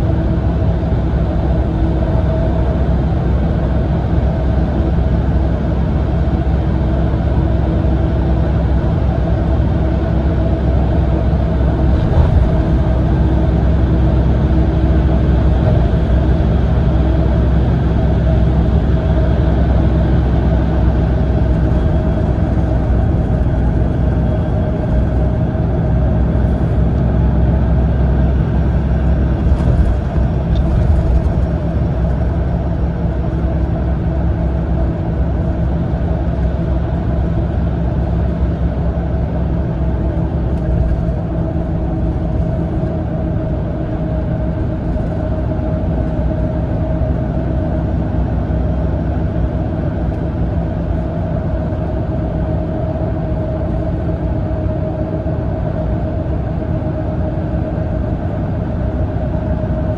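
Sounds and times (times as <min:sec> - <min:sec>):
tyres on the road: 0:00.0 - 0:50.8
constant hum: 0:00.0 - 0:59.9
diesel engine drone: 0:00.0 - 0:59.9.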